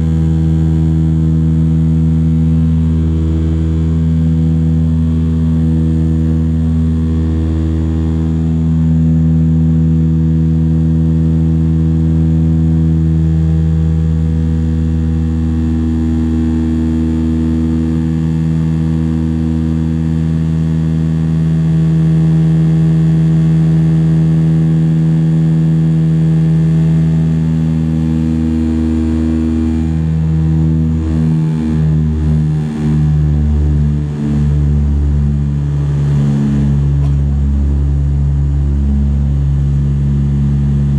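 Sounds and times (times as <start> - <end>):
turboprop cabin drone: 0.0 - 40.9.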